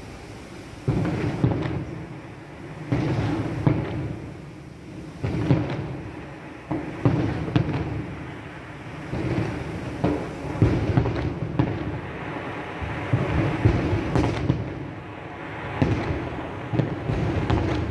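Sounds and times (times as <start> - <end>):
fireworks booming: 0.0 - 17.9
fireworks crackling: 0.0 - 17.9.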